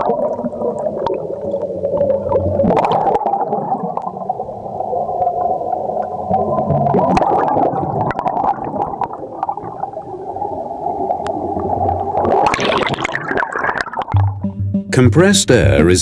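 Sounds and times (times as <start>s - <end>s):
water gurgling and bubbling: 0.0s - 14.2s.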